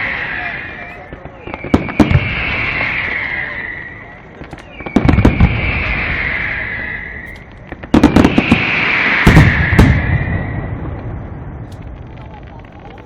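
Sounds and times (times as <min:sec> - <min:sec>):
fireworks bangs: 0:00.0 - 0:13.0
fireworks high rushing hiss: 0:00.0 - 0:13.0.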